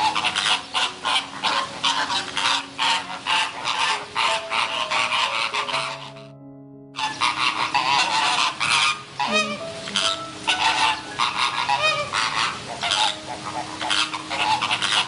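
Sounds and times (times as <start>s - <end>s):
large birds honking: 0.0s - 6.4s, 7.0s - 15.0s.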